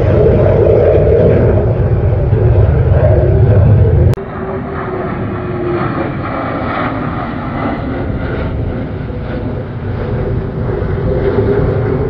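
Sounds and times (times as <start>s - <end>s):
jets flying overhead: 0.0s - 12.0s.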